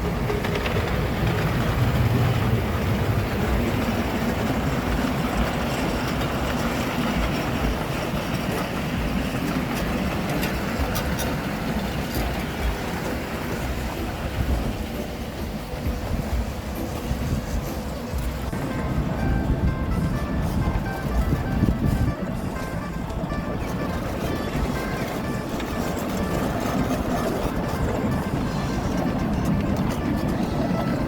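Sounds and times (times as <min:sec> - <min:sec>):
miniature train wheels rumbling: 0:00.0 - 0:31.0.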